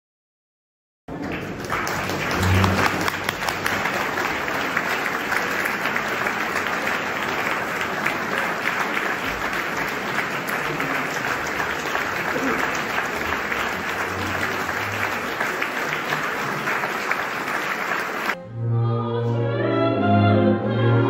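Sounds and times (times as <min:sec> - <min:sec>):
audience applauding: 0:01.1 - 0:18.4.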